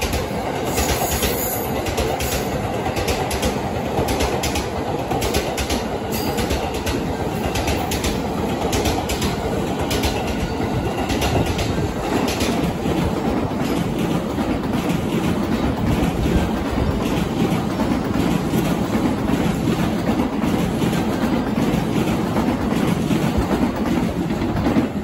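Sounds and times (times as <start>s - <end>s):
high-speed train rumbling: 0.0s - 25.0s
train wheels clacking over rail joints: 0.0s - 25.0s.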